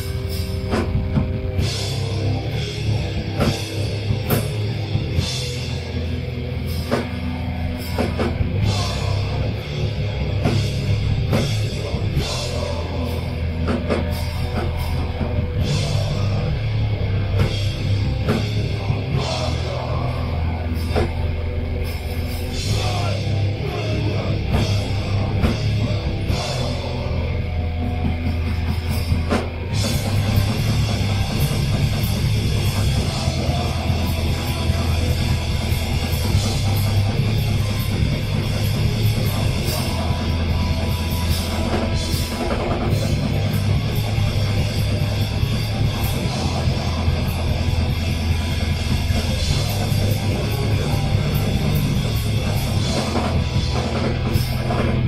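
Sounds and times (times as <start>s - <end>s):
metal band playing: 0.0s - 55.0s.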